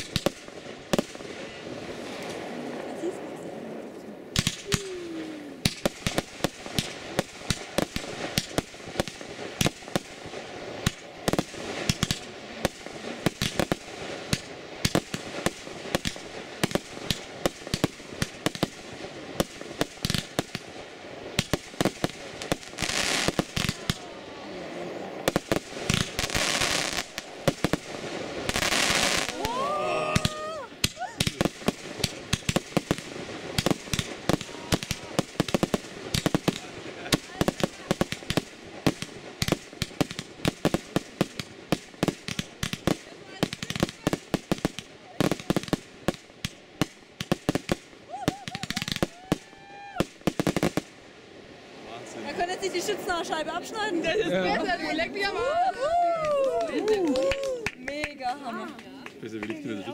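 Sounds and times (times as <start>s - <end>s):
fireworks hissing rushes: 0.0s - 57.6s
fireworks bangs and crackles: 0.0s - 59.9s.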